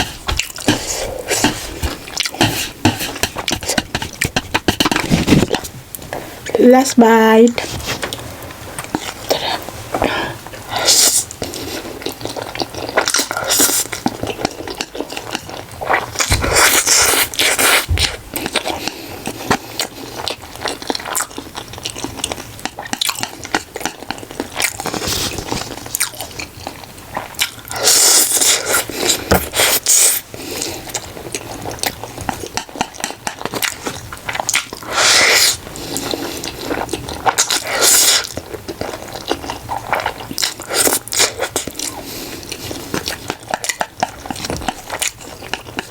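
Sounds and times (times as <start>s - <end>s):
person chewing food: 0.0s - 6.6s, 7.6s - 45.9s.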